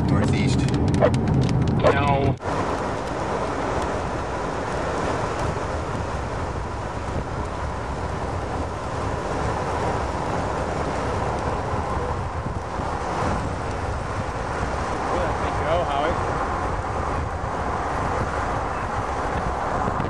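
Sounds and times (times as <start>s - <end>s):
vehicle engine rumble: 0.0s - 20.0s
wind noise: 0.0s - 20.0s.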